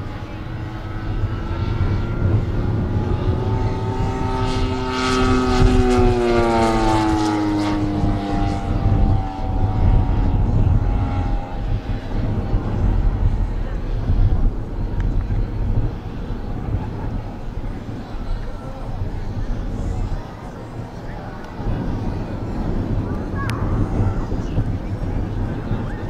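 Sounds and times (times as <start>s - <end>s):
model plane propeller drone: 0.0s - 26.0s.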